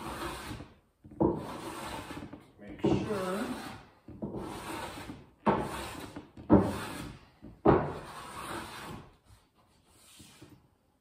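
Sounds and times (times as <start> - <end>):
hand tool strokes on wood: 0.0 - 7.2, 7.8 - 10.6.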